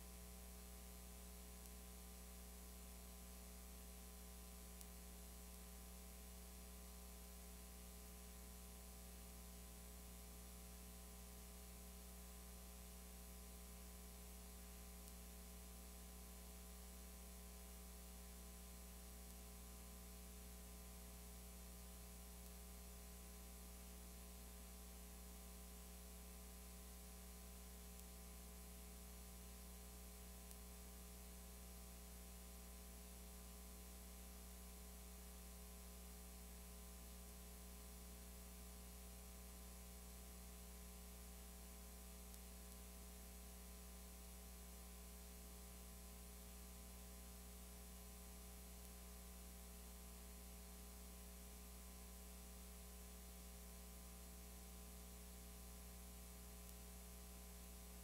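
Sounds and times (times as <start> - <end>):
faint hiss: 0.0 - 58.0
low electrical hum: 0.0 - 58.0.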